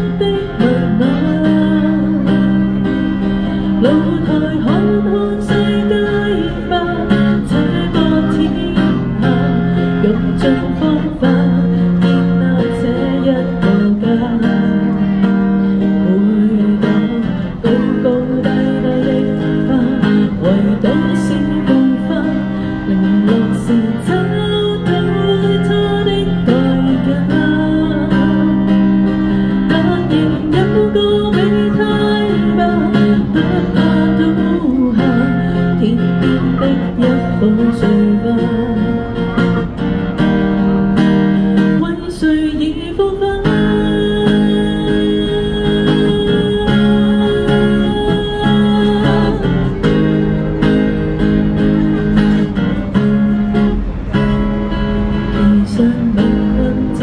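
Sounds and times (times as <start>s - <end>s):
woman singing: 0.0s - 39.7s, 41.5s - 50.3s, 55.2s - 57.0s
acoustic guitar strumming: 0.0s - 57.0s.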